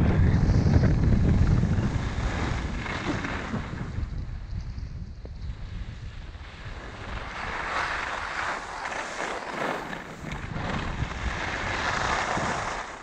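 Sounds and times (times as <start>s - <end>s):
wind buffeting microphone: 0.0s - 13.0s
skis scraping on snow: 0.6s - 4.1s, 5.3s - 13.0s.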